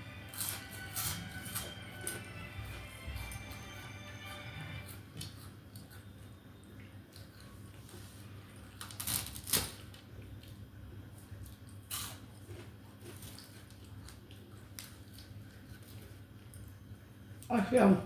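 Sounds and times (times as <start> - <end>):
quiet eating noises: 0.0 - 17.8
low steady hum: 0.0 - 18.0.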